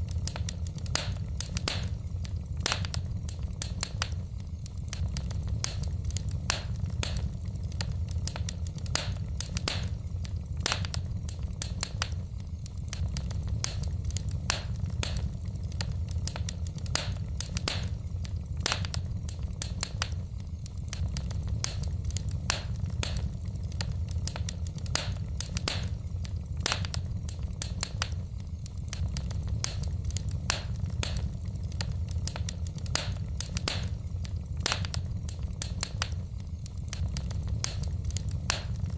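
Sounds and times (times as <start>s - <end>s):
low rumble of fire: 0.0s - 38.9s
wood fire crackling and popping: 0.0s - 38.9s.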